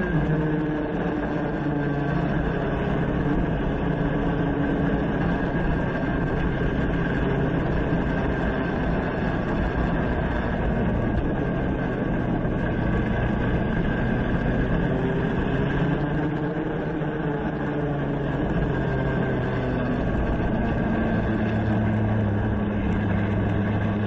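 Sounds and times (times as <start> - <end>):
kart engine revving high: 0.0 - 24.0.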